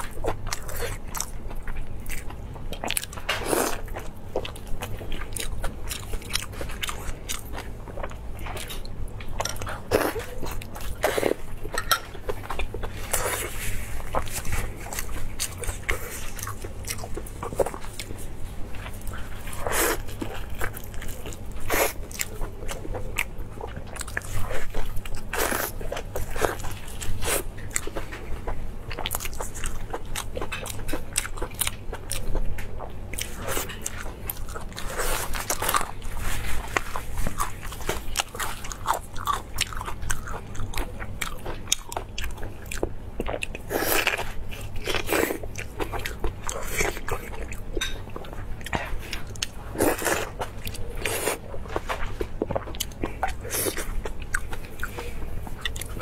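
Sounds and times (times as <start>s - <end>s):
crunchy food chewing: 0.0s - 56.0s.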